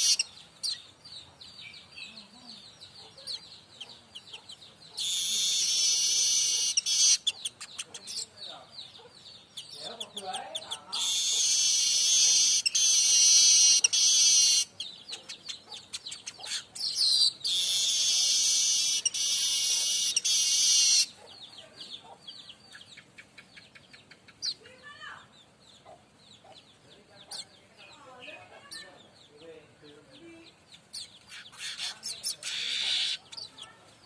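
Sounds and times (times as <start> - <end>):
bird singing buzzing phrases: 0.0 - 33.8.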